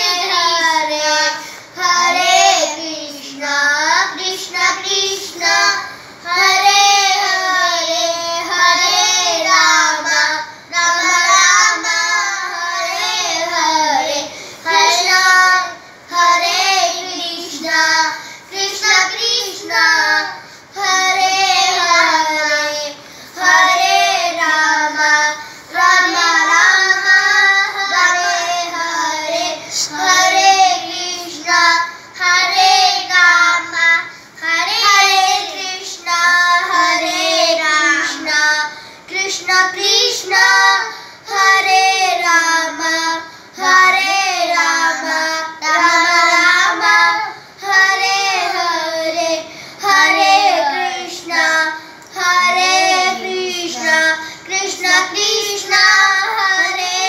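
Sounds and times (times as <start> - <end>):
girls chanting a devotional mantra: 0.0 - 57.0.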